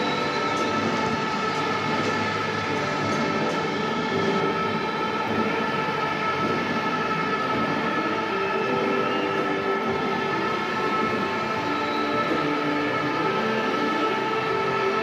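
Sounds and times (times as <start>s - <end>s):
crowd in uproar: 0.0s - 15.0s.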